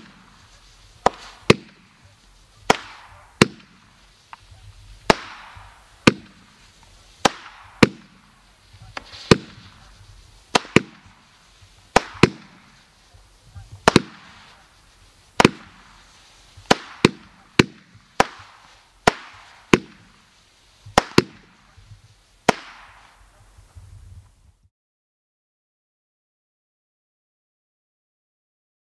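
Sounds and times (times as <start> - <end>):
fireworks bangs with echo: 0.0 - 23.7.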